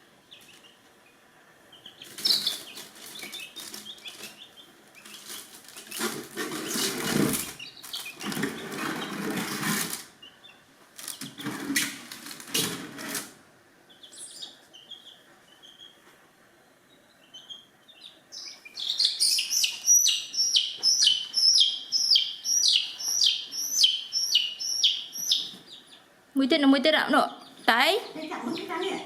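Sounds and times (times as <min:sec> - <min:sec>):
chicks peeping: 0:00.0 - 0:13.2, 0:13.8 - 0:29.0.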